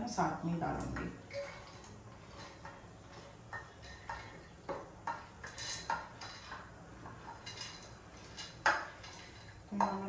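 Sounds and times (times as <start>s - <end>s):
metal spoon clinking on steel bowl: 0.8s - 10.0s.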